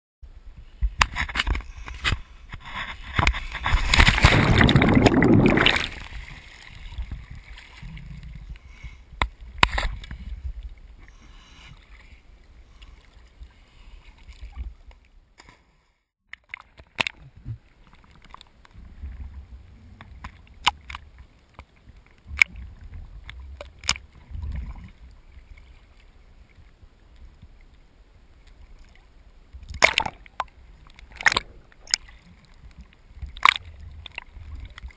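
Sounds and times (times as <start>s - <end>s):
water sloshing and splashing: 0.9s - 15.6s, 16.2s - 34.9s.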